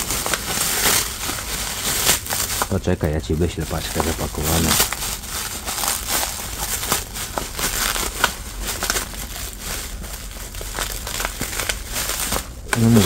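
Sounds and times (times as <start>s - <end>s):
plastic bin bag crinkling: 0.0s - 13.0s.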